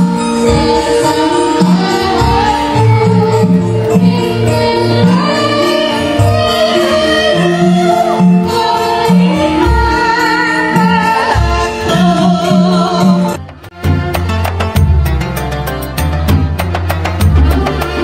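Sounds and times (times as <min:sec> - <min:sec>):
music with singing: 0:00.0 - 0:18.0.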